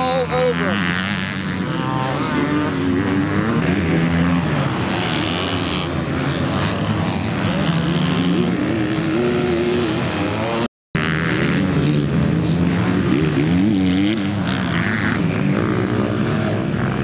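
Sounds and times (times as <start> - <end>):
motocross bike engines racing: 0.0 - 17.0.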